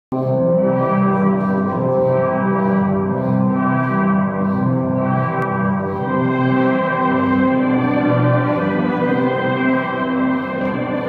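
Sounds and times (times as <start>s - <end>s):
classical music: 0.2s - 11.0s.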